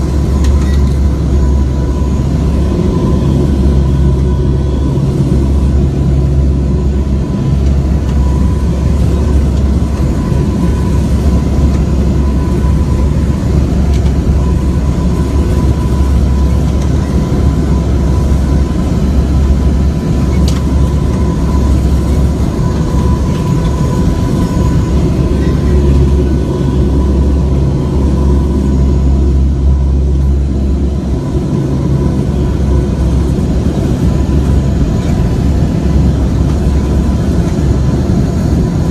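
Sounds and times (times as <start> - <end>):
aircraft engines roaring: 0.0 - 38.9.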